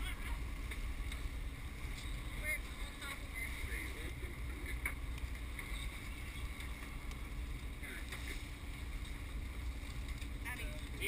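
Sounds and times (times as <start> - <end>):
boat engines rumbling: 0.0 - 11.0.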